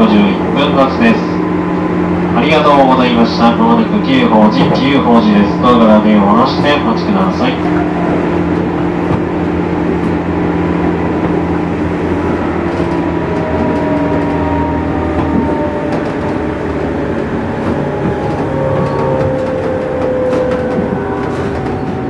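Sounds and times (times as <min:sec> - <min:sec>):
traction motor whine: 0:00.0 - 0:22.0
train wheels rumbling: 0:00.0 - 0:22.0.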